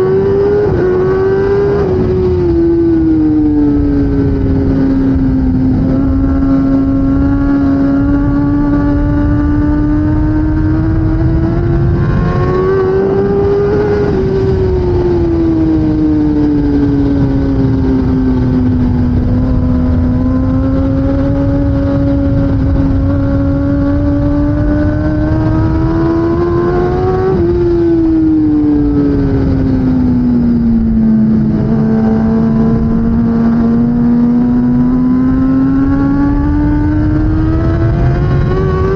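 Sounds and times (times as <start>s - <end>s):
heavy wind rush: 0.0s - 38.9s
motorcycle engine revving: 0.0s - 38.9s.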